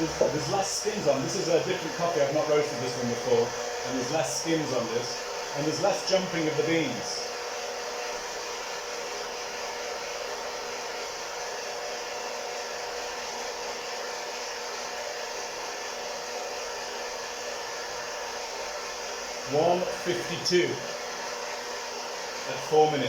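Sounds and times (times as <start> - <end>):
coffee roaster air rush: 0.0 - 23.0.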